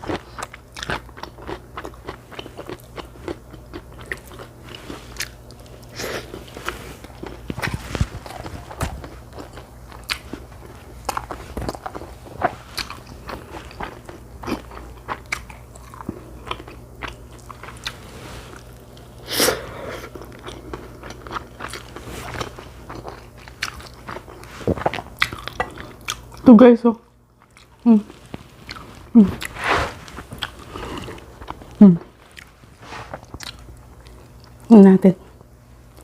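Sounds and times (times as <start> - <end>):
chewing and crunching food: 0.0 - 19.2, 19.8 - 36.0.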